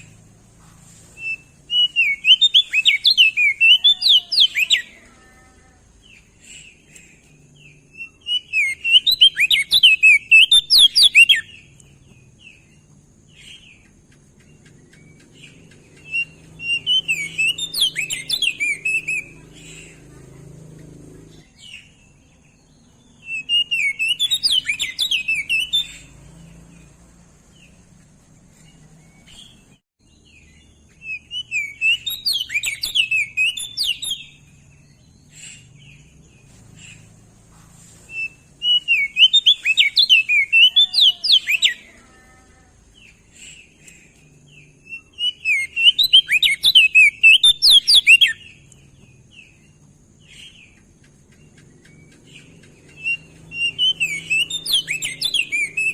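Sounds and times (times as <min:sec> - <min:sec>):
bird singing warbled phrases: 0:00.0 - 0:55.9.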